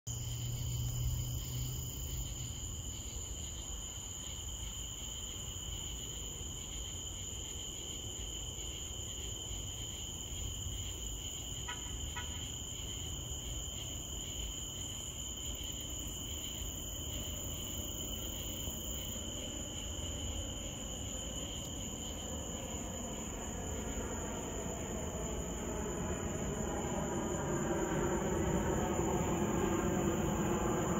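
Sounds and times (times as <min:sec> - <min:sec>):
insects trilling: 0:00.1 - 0:30.9.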